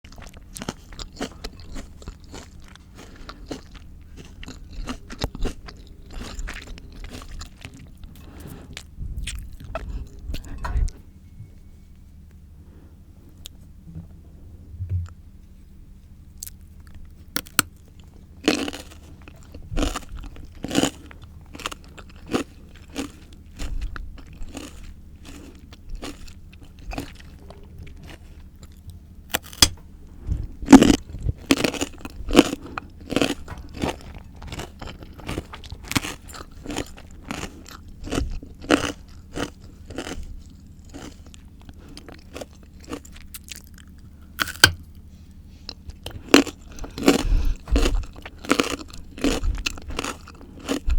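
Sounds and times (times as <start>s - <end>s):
person crunching raw fruit: 0.1s - 10.5s, 16.4s - 50.9s
steady low hum: 0.1s - 50.9s.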